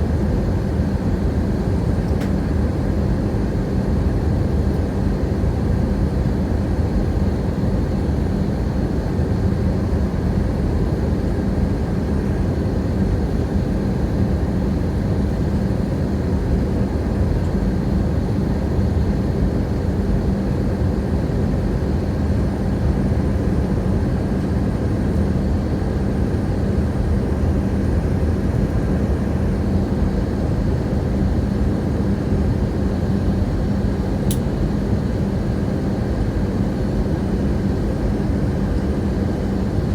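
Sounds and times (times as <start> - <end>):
airplane engine and air noise: 0.0 - 39.9.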